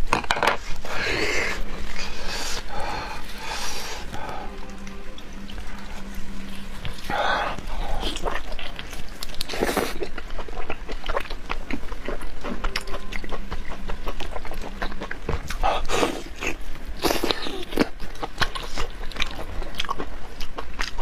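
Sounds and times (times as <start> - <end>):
slurping: 0.6 - 17.9
wet chewing and lip smacking: 1.9 - 21.0.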